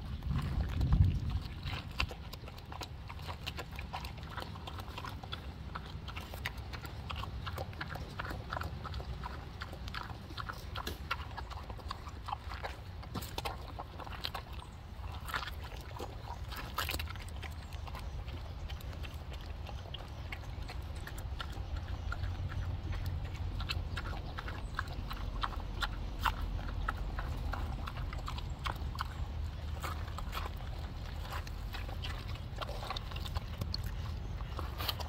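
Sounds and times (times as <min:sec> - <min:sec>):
pig chewing and crunching: 0:00.0 - 0:35.0
steady low rumble: 0:00.0 - 0:35.0.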